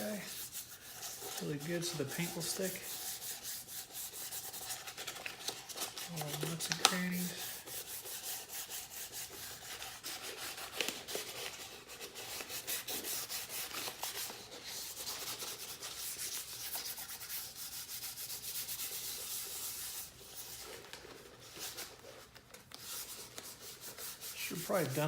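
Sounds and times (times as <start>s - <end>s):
sandpaper rubbing on plastic: 0.0s - 25.0s.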